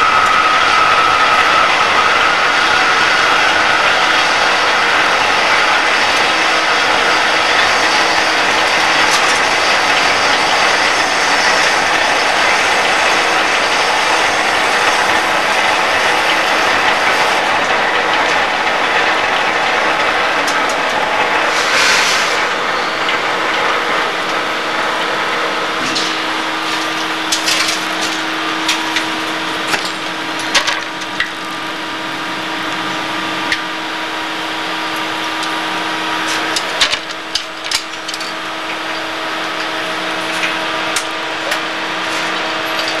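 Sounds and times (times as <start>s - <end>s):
lathe cutting steel: 0.0s - 43.0s.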